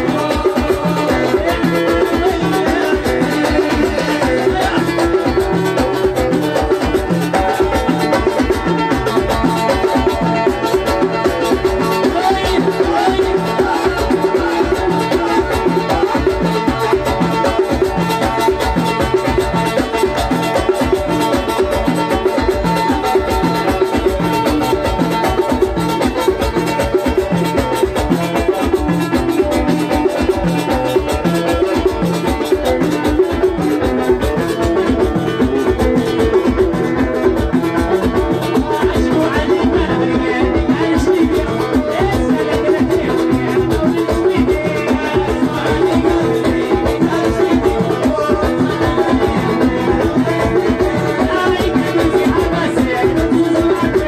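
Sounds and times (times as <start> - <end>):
steady drum beat: 0.0 - 54.0.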